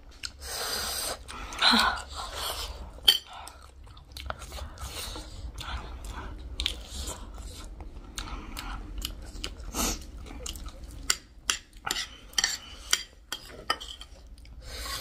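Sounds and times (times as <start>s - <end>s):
close-up chewing: 1.1s - 14.8s.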